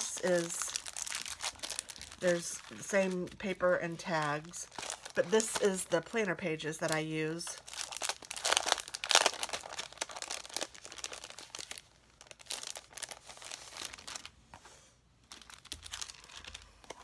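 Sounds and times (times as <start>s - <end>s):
plastic packaging crinkling: 0.0s - 14.4s, 15.2s - 17.0s.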